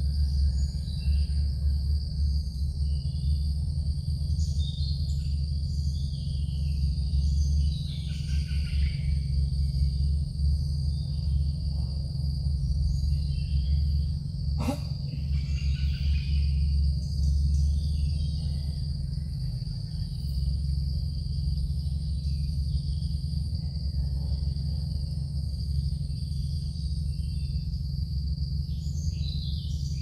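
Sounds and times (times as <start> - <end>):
insects chirring: 0.0 - 30.0
low outdoor rumble: 0.0 - 30.0.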